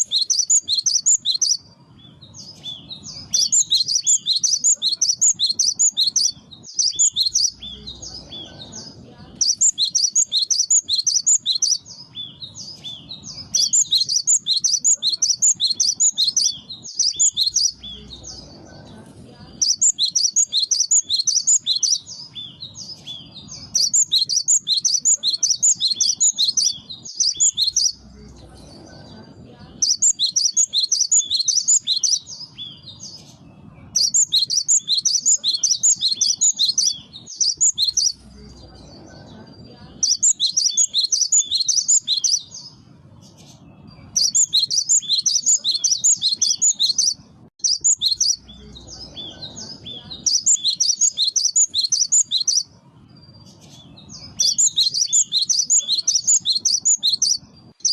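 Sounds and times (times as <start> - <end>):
bird singing rapid high notes: 0.0 - 18.5, 19.5 - 28.2, 29.8 - 38.6, 39.9 - 57.9.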